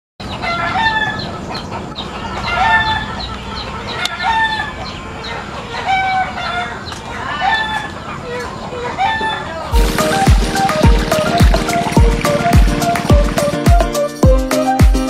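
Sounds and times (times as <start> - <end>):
chicken calling: 0.2 - 14.3.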